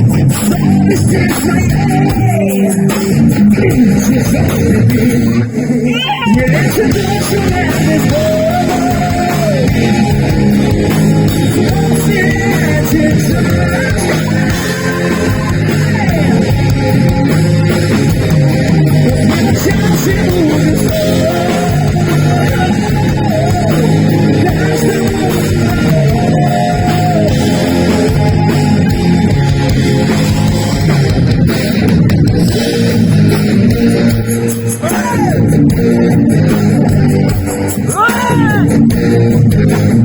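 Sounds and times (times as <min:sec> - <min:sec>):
bending lead guitar line: 0:00.0 - 0:40.0
heavy metal band playing: 0:00.0 - 0:40.0.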